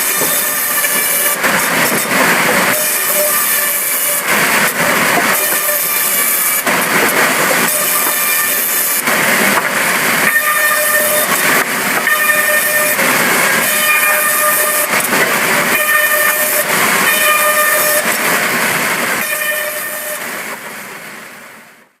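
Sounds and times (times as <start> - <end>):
saw cutting through timber: 0.0 - 20.4.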